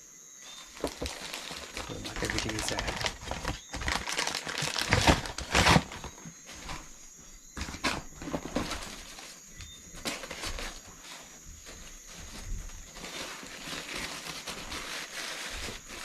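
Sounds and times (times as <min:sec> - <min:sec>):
packaging crinkling and rustling: 0:00.6 - 0:16.0.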